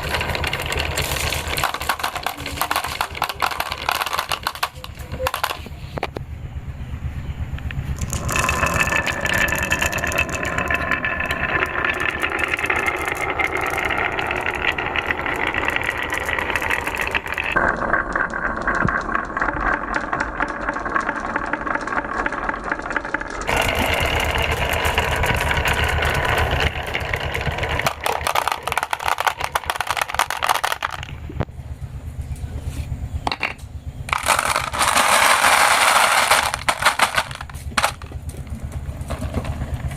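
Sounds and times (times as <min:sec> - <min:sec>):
balls rolling down marble run: 0:00.0 - 0:06.2, 0:07.5 - 0:31.9, 0:33.2 - 0:39.9.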